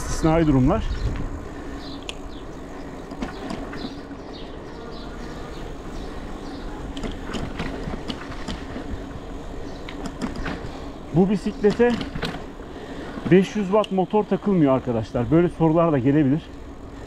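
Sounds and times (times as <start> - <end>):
electric motor hum: 0.0 - 17.0
road rumble: 0.0 - 17.0
wind: 0.0 - 17.0
bike clicks and rattles: 1.1 - 17.0.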